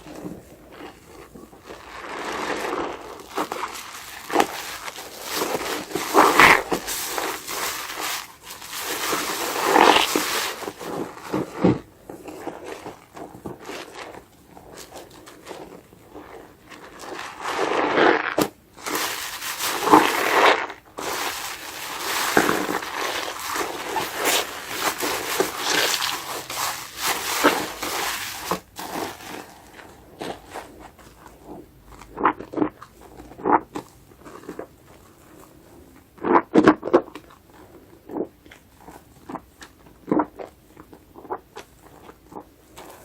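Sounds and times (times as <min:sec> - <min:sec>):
soapy sponge being squeezed: 0:00.0 - 0:43.0.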